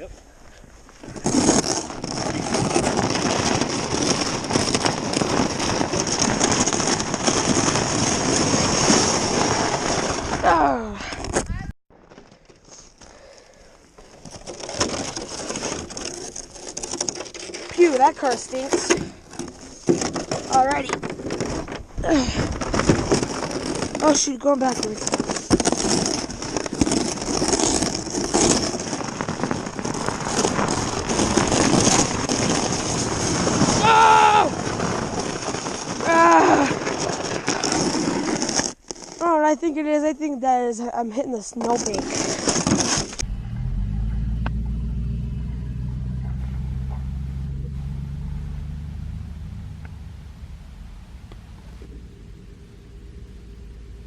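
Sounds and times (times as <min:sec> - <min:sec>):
sled scraping over snow: 0:00.0 - 0:13.4, 0:14.0 - 0:54.0.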